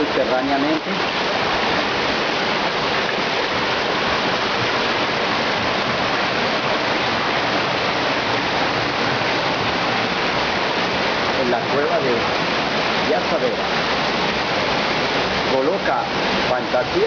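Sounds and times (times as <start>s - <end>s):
underground stream rushing: 0.0s - 17.0s.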